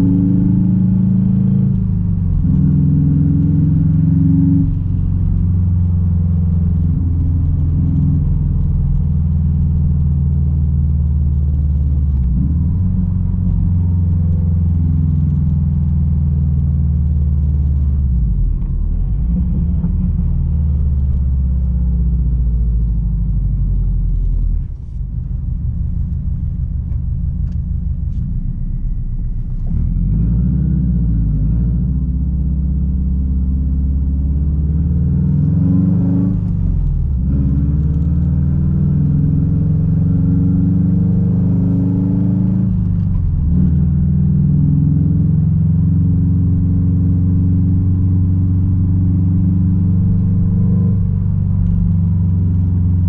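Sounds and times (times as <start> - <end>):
car engine exhaust rumble: 0.0 - 53.0.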